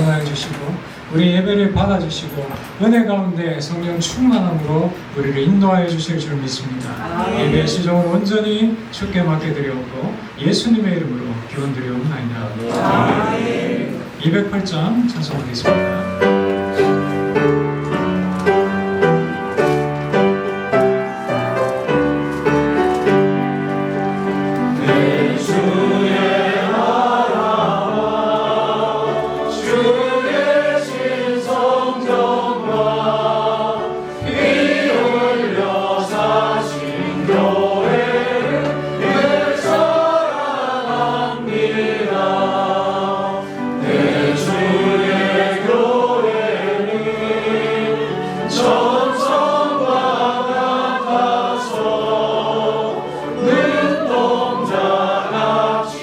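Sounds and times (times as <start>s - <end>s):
congregation singing a hymn: 5.0s - 11.5s, 12.1s - 56.0s.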